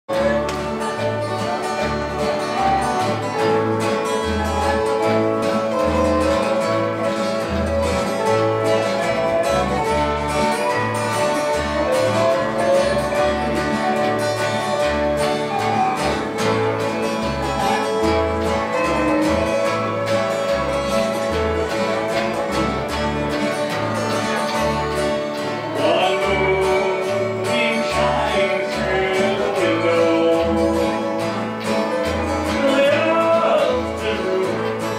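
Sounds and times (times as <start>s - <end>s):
upright bass line: 0.0s - 34.9s
resonator guitar: 0.1s - 34.9s
strummed acoustic guitars: 0.1s - 34.9s.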